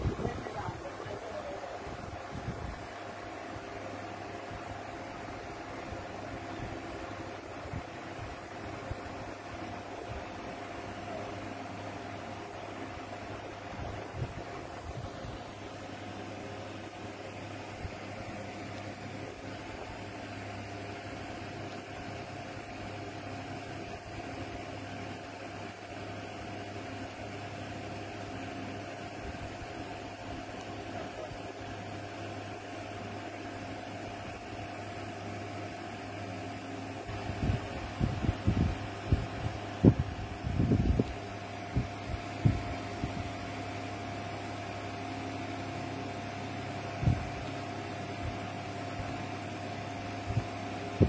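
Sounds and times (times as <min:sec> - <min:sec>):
machine hum: 0:00.0 - 0:51.0.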